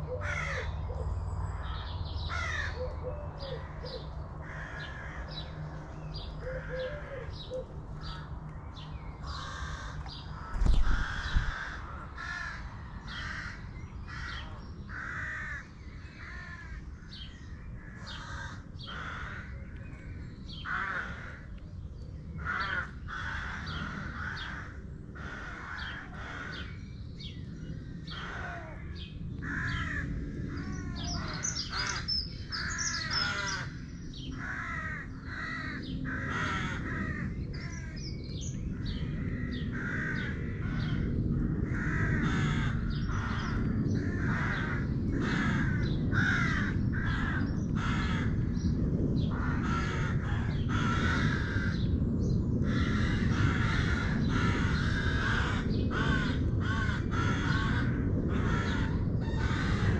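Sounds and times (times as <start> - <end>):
birds calling repeatedly: 0.0 - 59.9
low background rumble: 0.0 - 59.9.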